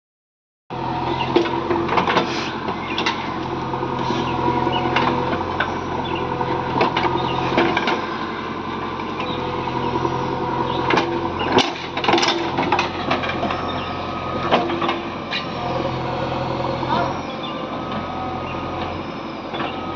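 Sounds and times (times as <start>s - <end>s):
diesel engine running: 0.7s - 19.9s.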